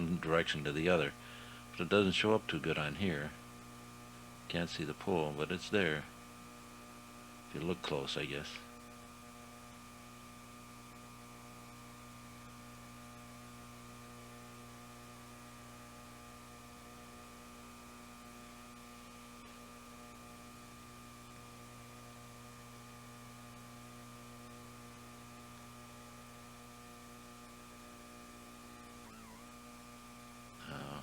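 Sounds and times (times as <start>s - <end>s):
electrical hum with low buzz: 0.0s - 31.0s.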